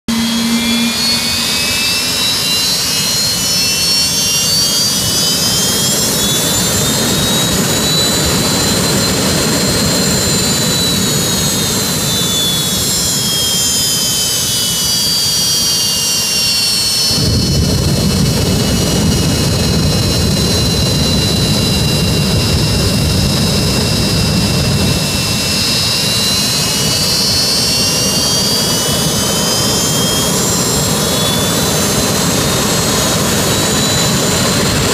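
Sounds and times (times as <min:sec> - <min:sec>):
exhaust rush and rumble: 0:00.0 - 0:15.0, 0:16.9 - 0:34.9
turbine engine whine: 0:00.0 - 0:34.9.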